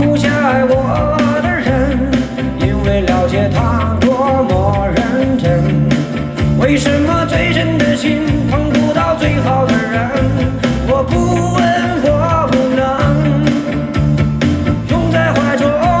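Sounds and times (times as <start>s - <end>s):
pop-rock song with singer: 0.0s - 16.0s.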